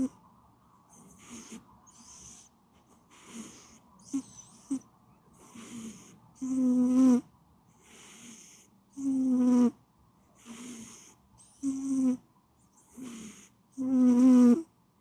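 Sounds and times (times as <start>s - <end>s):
soft hissing breaths: 0.0s - 14.7s
cat snoring: 0.9s - 2.5s, 3.1s - 4.8s, 5.4s - 9.8s, 10.4s - 14.7s.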